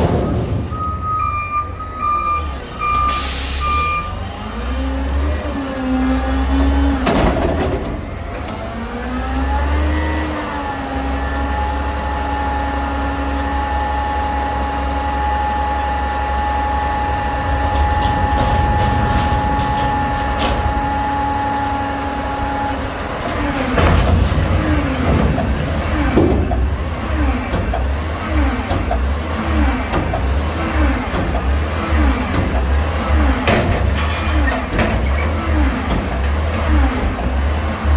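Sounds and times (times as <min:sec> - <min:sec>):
garbage truck diesel engine revving: 0:00.0 - 0:37.9.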